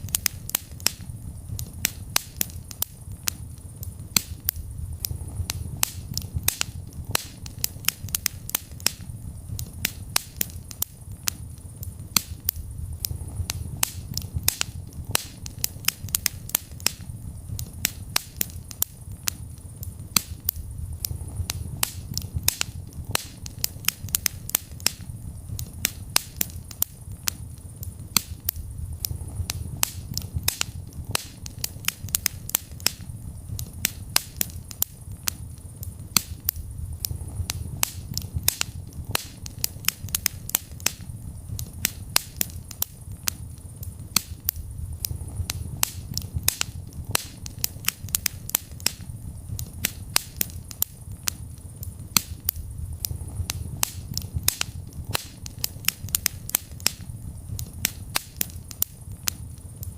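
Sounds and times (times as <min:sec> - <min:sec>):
low rumble of flames: 0:00.0 - 0:59.9
wood fire popping and crackling: 0:00.0 - 0:59.9.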